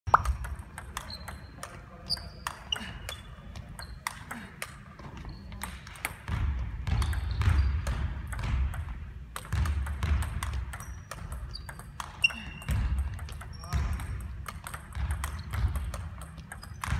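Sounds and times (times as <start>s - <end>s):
table tennis ball hits: 0.1s - 4.8s, 5.6s - 16.9s.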